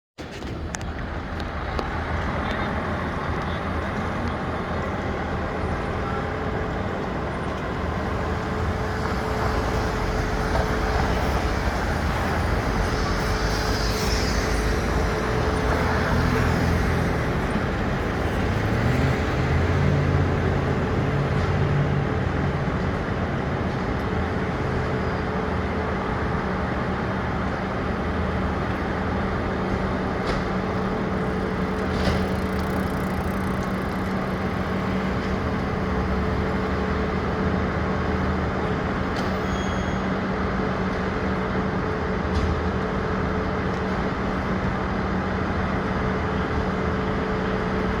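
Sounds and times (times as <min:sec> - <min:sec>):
fire truck diesel engine: 0:00.2 - 0:48.0
street traffic noise: 0:00.2 - 0:48.0.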